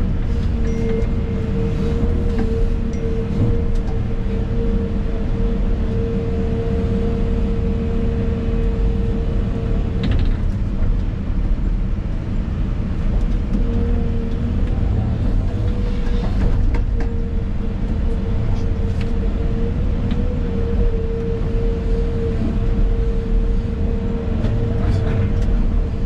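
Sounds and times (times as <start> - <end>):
excavator engine rumble: 0.0 - 26.0.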